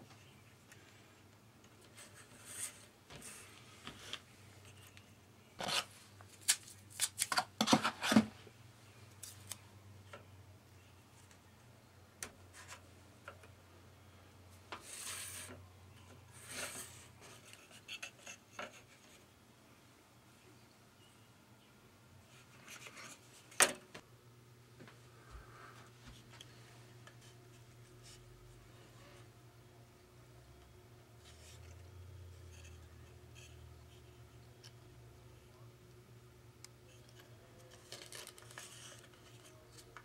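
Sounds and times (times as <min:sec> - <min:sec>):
faint low hum: 0:07.7 - 0:40.0.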